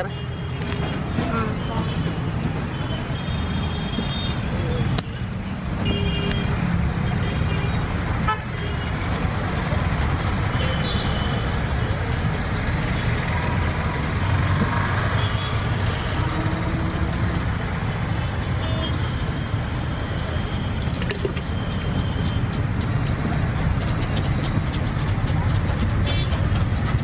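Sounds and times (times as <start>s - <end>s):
street traffic rumble: 0.0s - 27.0s.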